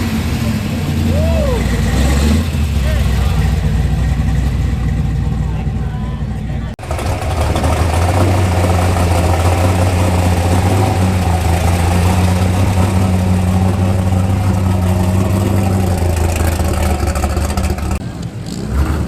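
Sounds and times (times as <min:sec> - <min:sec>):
vehicle engine idling: 0:00.0 - 0:18.6.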